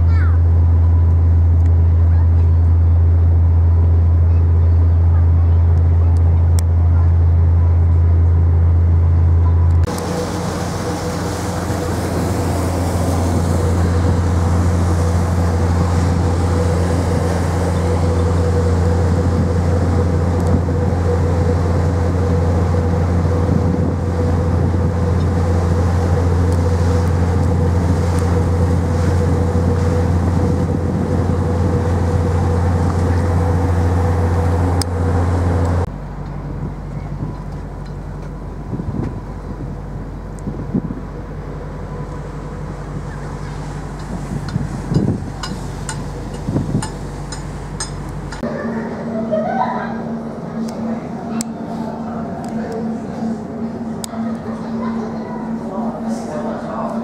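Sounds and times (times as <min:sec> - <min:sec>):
water rushing: 0:00.0 - 0:36.6, 0:37.6 - 0:57.0
ship engines droning: 0:00.0 - 0:57.0
steady higher hum: 0:00.0 - 0:57.0
rushing wind: 0:08.4 - 0:56.4.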